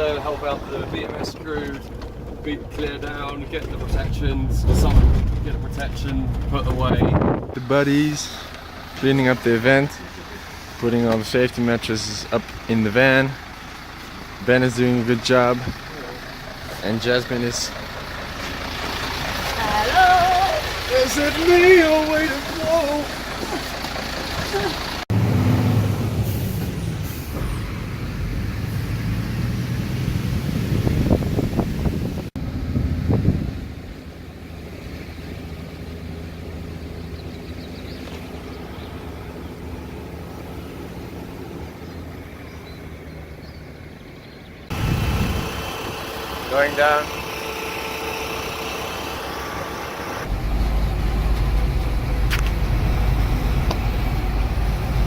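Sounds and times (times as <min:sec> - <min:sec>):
road noise: 0:00.0 - 0:55.0
vehicle engine rumbling: 0:00.0 - 0:55.0.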